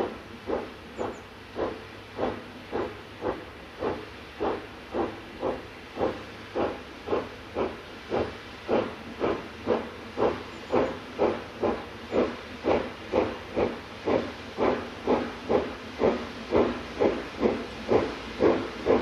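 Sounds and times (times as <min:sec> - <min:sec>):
steam hissing: 0:00.0 - 0:19.0
steam locomotive chuffing: 0:00.0 - 0:19.0.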